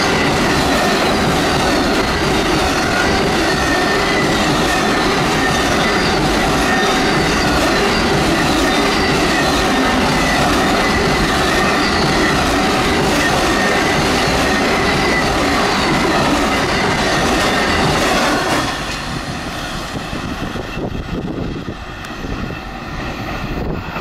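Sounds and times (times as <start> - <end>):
steel wheels rushing on rail: 0.0 - 24.0.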